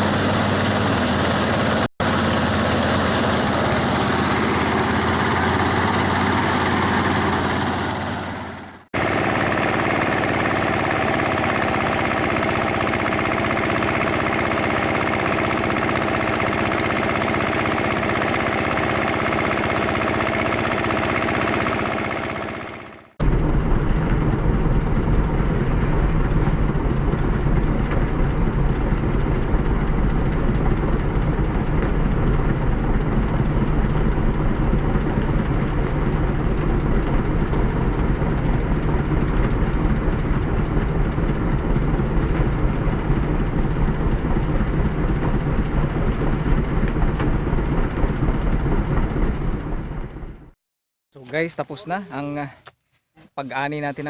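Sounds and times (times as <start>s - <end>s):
thresher engine drone: 0.0s - 50.5s.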